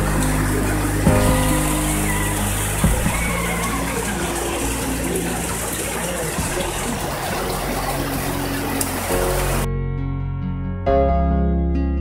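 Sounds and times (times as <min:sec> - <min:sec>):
heavy rain pouring: 0:00.0 - 0:09.7
soft background music tones: 0:00.0 - 0:10.0.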